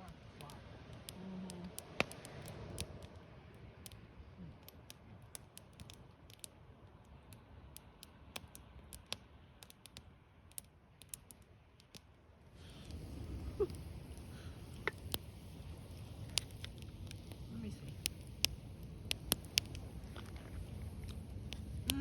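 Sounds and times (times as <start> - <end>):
campfire crackling and popping: 0.0 - 22.0
low steady rush: 0.0 - 22.0.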